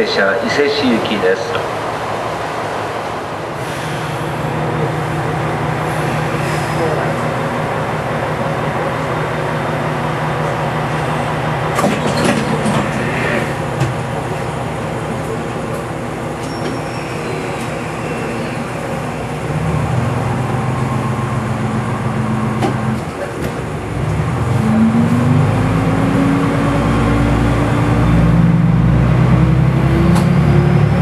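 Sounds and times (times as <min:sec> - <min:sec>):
diesel railcar engine: 0:00.0 - 0:31.0.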